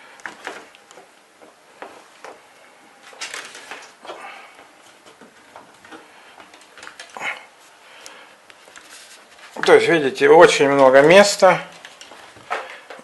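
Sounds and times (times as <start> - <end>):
cable wires rustling and scraping: 1.7 - 13.0.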